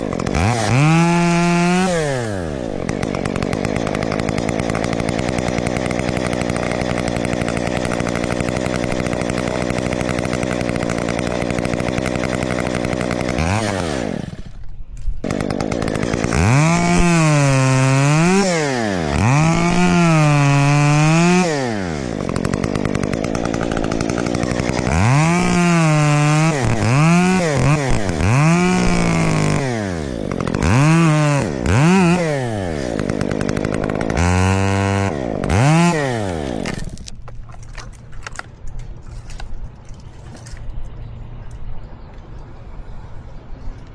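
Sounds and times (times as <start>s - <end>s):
chainsaw idling and revving: 0.0s - 14.6s, 15.2s - 38.4s.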